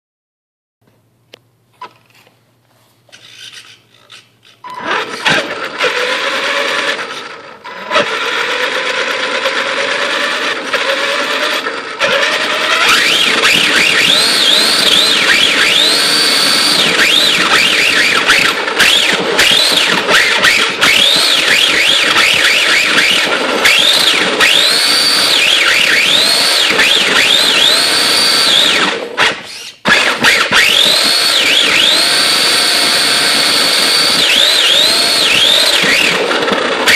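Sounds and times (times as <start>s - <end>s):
rc car electric motor whining: 3.1s - 36.9s.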